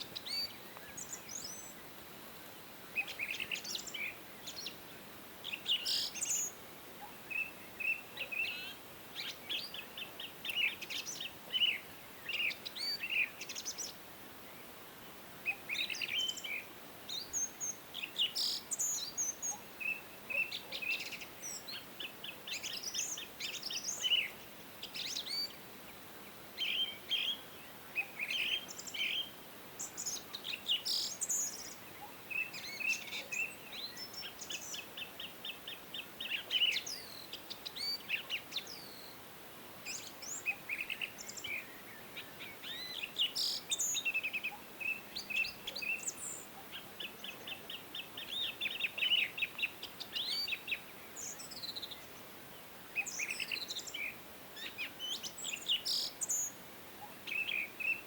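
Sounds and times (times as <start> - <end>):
faint background hiss: 0.0 - 58.0
songbirds chirping and trilling: 0.0 - 58.0.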